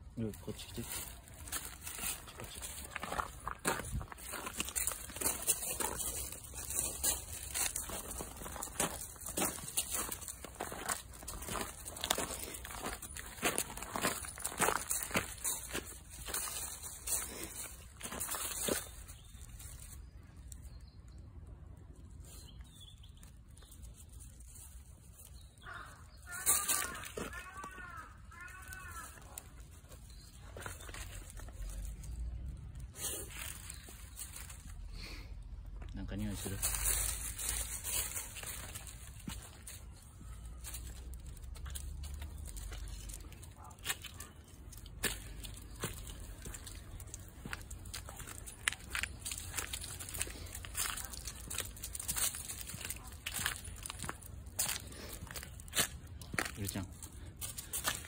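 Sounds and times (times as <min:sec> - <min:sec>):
leaves rustling: 0:00.3 - 0:20.6, 0:23.6 - 0:35.2, 0:36.1 - 0:58.0.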